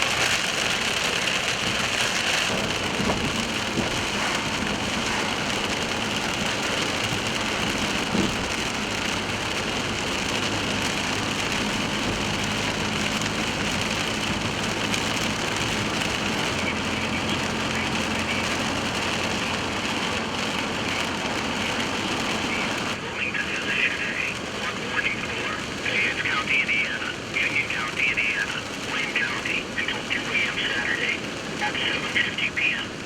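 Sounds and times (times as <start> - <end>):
car engine and road noise: 0.0 - 33.0
heavy rain on a car: 0.0 - 33.0.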